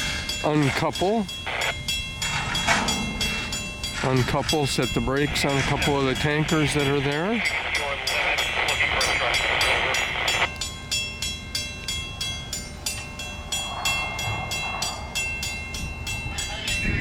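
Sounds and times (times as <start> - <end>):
diesel locomotives idling: 0.0 - 17.0
steady whine: 0.0 - 17.0.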